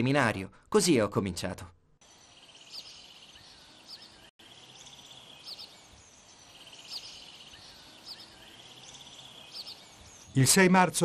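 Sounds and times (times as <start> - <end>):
small birds trilling and chirping: 2.0 - 11.0.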